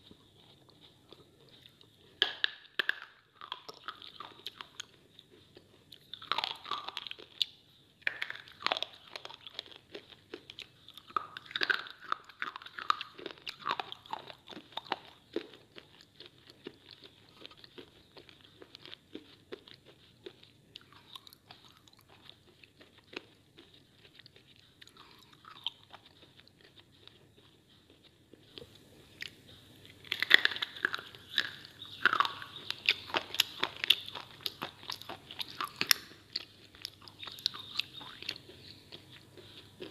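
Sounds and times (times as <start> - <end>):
slate crunching between teeth: 0.0 - 39.9.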